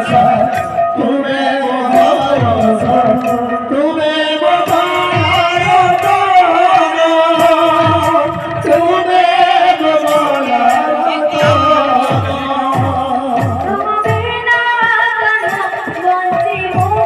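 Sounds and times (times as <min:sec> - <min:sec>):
devotional singing: 0:00.0 - 0:17.0.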